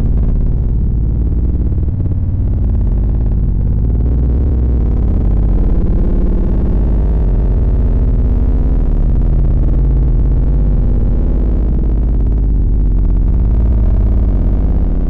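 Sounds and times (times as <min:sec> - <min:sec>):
deep synthesized bass: 0:00.0 - 0:15.0.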